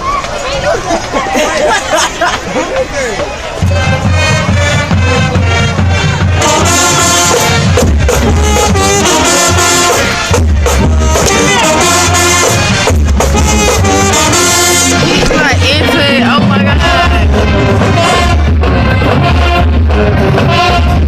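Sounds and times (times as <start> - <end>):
marching band brass tune: 1.0 - 21.0
low bass line: 3.6 - 21.0
sharp percussion hits: 3.6 - 21.0.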